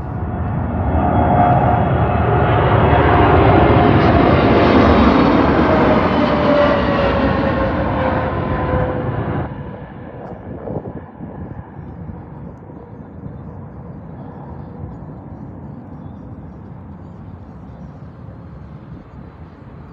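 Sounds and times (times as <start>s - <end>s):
jet engine rumble: 0.0s - 19.9s
wind buffeting microphone: 0.0s - 19.9s.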